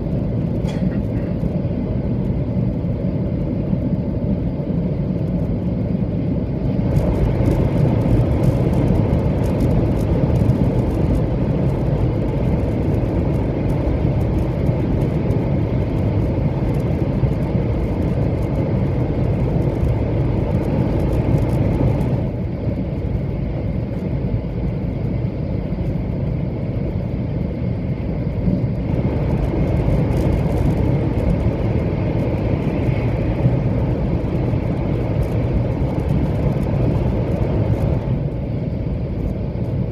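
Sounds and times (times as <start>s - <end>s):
train low rumble inside carriage: 0.0s - 39.9s.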